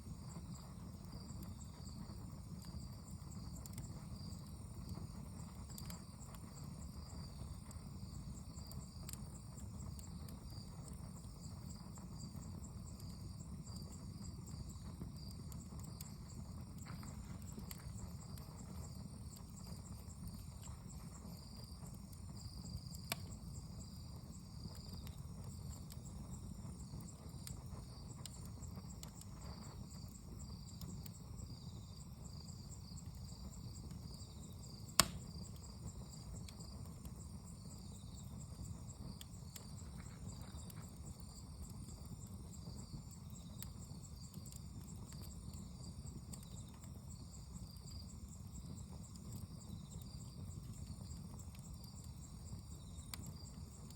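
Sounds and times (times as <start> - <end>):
fire popping: 0.0 - 53.9
insects chirring: 0.0 - 53.9
wood fire rumbling: 0.0 - 53.9.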